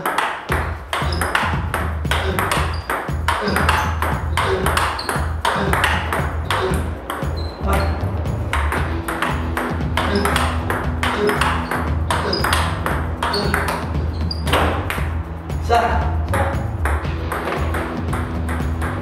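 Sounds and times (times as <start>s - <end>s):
table tennis balls bouncing: 0.0s - 15.4s, 16.0s - 19.0s
background music with bass: 0.5s - 19.0s.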